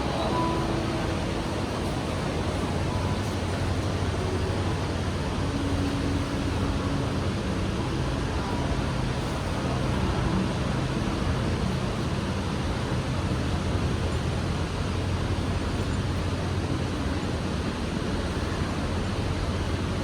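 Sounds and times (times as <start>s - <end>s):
road traffic rushing: 0.0s - 19.0s
low hum: 0.0s - 20.0s.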